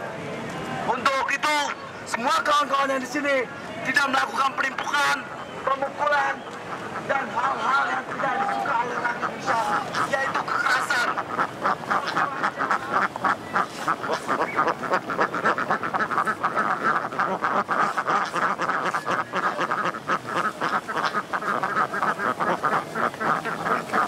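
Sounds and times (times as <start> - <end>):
flock of ducks quacking: 1.0 - 24.0.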